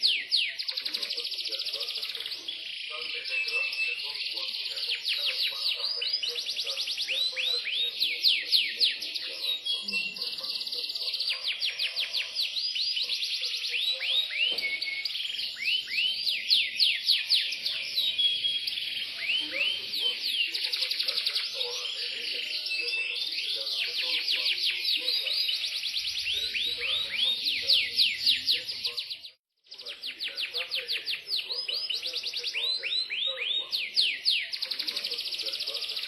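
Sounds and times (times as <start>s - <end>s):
canary singing trills: 0.0s - 36.0s.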